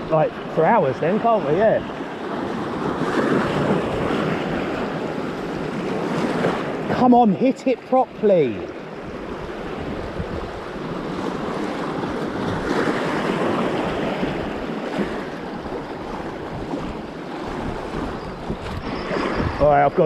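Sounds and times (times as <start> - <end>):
wind buffeting microphone: 0.0 - 7.0, 8.8 - 20.0
sea waves washing on shore: 0.0 - 20.0.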